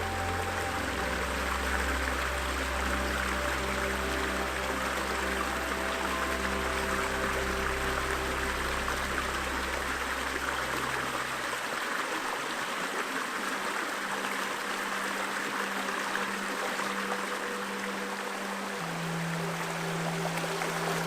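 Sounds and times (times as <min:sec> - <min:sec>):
river flowing: 0:00.0 - 0:21.0
soft music pad low notes: 0:00.0 - 0:21.0.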